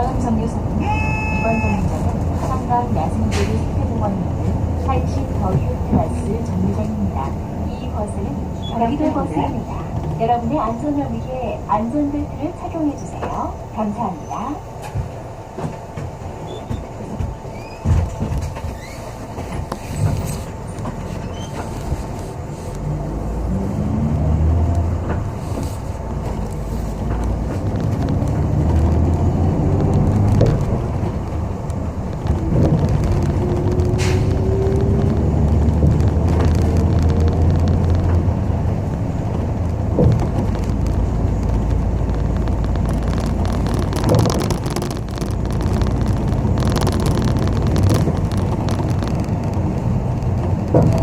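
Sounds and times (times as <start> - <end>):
bus engine drone: 0.0 - 51.0
road rumble: 0.0 - 51.0.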